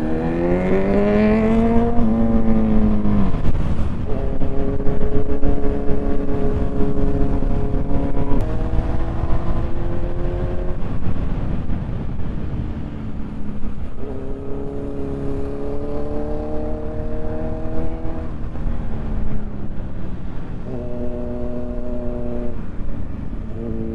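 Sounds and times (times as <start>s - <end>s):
motorcycle engine accelerating: 0.0s - 23.9s
wind rumble: 0.0s - 23.9s.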